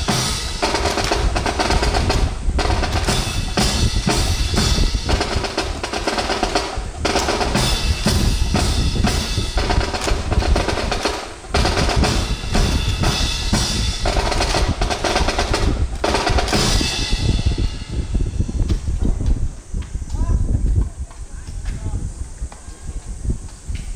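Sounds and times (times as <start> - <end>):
marching drum cadence: 0.0 - 20.1.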